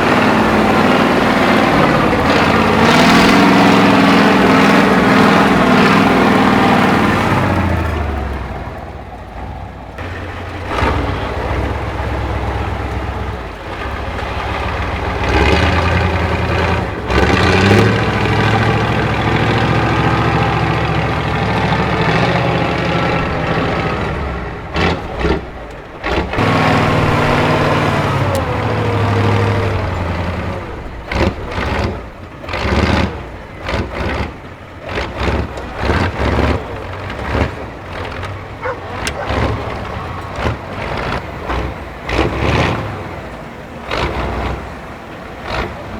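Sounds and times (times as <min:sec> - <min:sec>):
truck engine working hard: 0:00.0 - 0:45.9.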